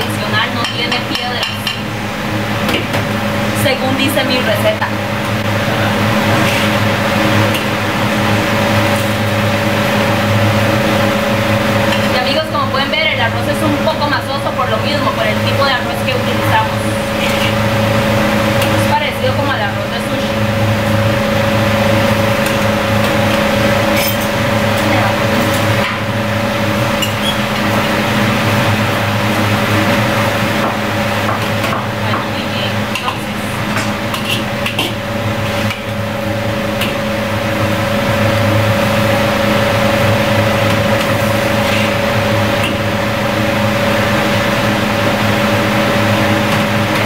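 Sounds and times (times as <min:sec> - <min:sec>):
wok range burners and fan humming: 0:00.0 - 0:47.0.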